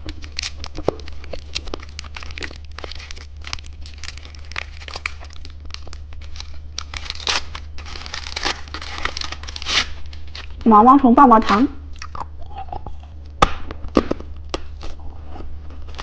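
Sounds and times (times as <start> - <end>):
plastic packaging crinkling: 0.0 - 10.7, 13.2 - 16.0.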